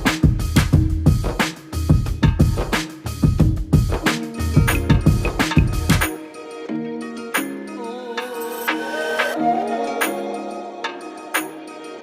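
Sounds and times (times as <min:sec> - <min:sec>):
background music with percussion: 0:00.0 - 0:12.0.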